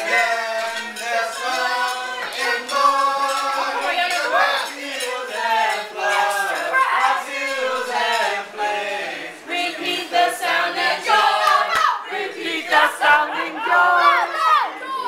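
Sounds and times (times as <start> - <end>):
group singing a carol unaccompanied: 0.0 - 15.0.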